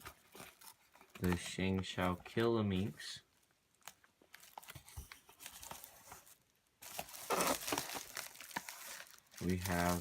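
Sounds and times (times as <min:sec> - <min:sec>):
packaging crinkling and rustling: 0:00.0 - 0:03.0, 0:03.7 - 0:10.0.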